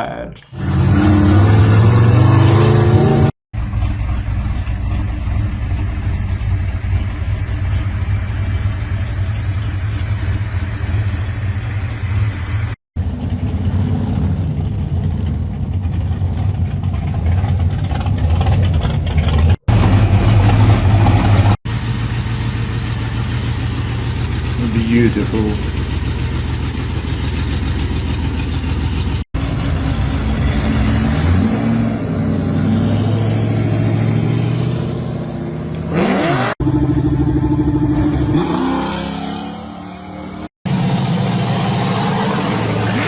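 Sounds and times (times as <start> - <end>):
muscle car engines rumbling and revving: 0.4 - 43.0.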